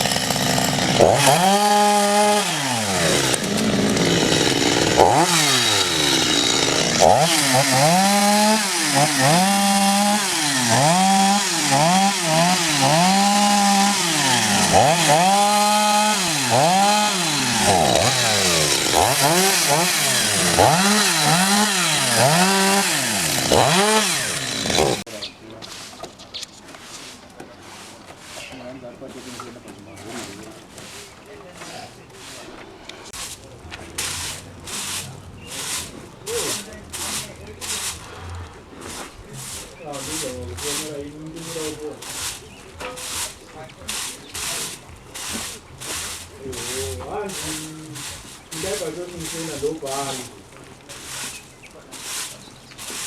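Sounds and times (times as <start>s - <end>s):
chainsaw revving: 0.0s - 25.1s, 33.0s - 51.5s.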